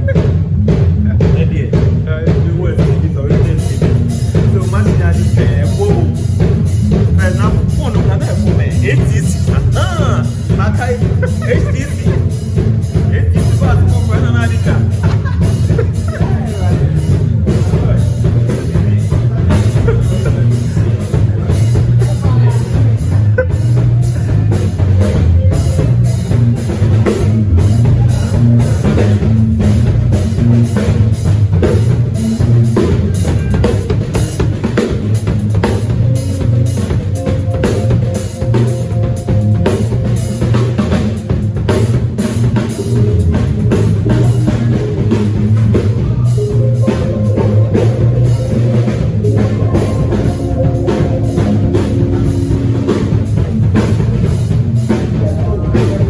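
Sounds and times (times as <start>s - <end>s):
drum kit groove: 0.0s - 56.0s
held instrument notes: 3.3s - 56.0s.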